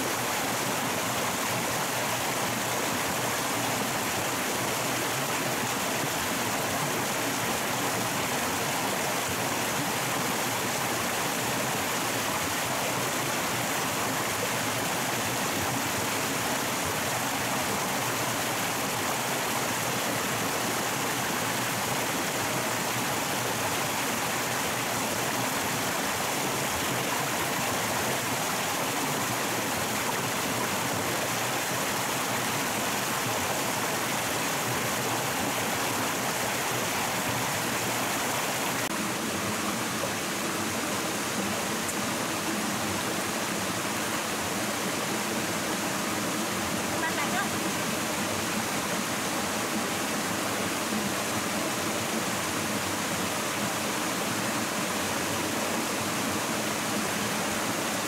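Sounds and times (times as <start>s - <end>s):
flowing stream: 0.0s - 58.0s.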